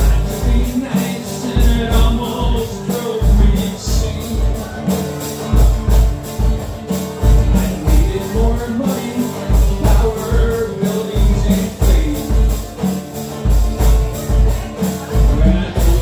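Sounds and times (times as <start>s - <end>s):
acoustic guitar strumming: 0.0s - 16.0s
deep drum thumps: 0.0s - 16.0s
hand drum: 0.0s - 16.0s.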